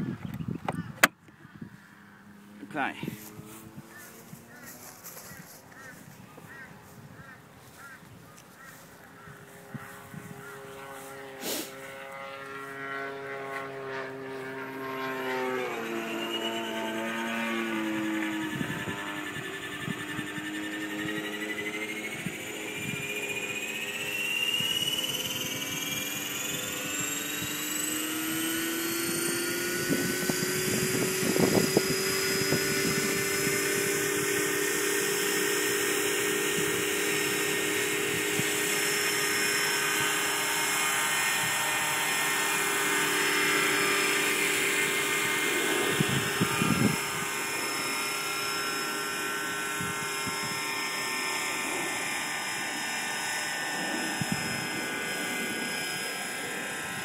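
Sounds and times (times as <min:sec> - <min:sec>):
rc helicopter motor whine: 0:00.0 - 0:57.0.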